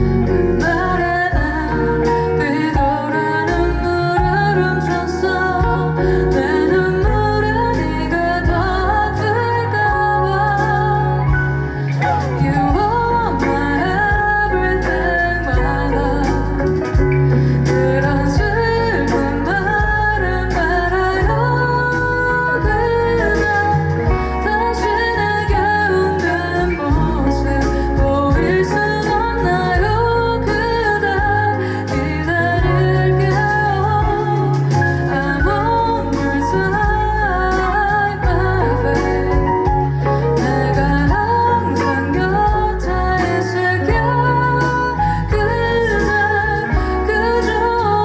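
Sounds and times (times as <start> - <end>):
bass line: 0.0 - 48.0
guitar: 0.0 - 48.0
woman singing: 0.0 - 48.0.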